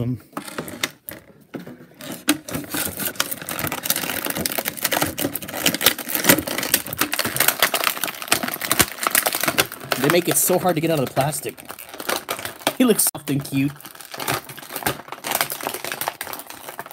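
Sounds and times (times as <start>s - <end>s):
plastic packaging crinkling: 0.5s - 16.9s.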